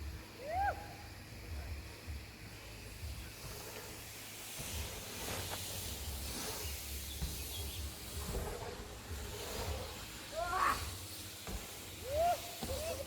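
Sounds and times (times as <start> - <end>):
bike tyres rolling over dirt: 0.0 - 13.0.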